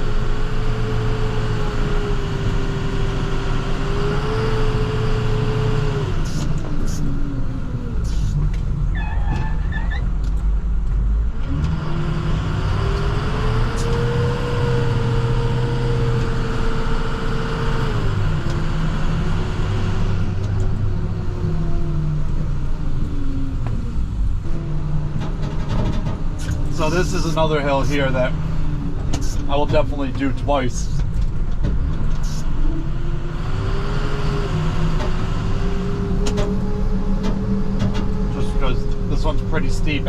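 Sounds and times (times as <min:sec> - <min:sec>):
truck engine whining: 0:00.0 - 0:40.0.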